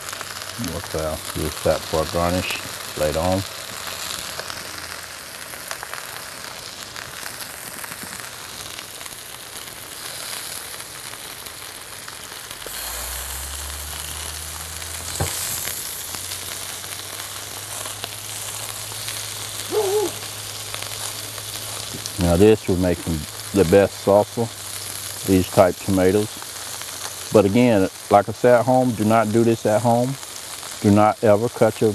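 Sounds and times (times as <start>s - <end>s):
vegetables sizzling in a skillet: 0.0s - 31.9s.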